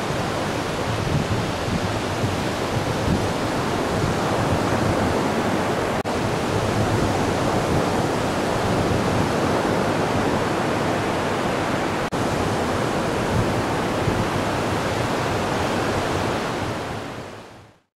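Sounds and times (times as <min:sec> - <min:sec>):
ocean surf breaking: 0:00.0 - 0:17.7.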